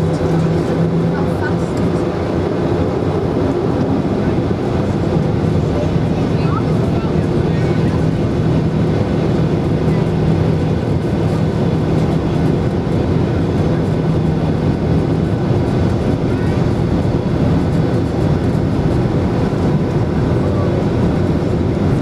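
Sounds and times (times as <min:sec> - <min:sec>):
aircraft cabin engine hum: 0:00.0 - 0:22.0.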